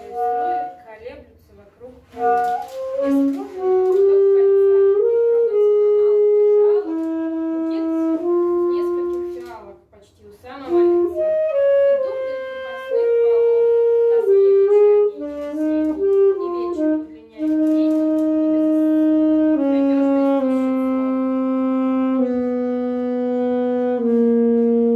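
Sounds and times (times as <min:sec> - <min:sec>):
solo saxophone melody: 0:00.0 - 0:00.9, 0:02.1 - 0:09.6, 0:10.7 - 0:24.9.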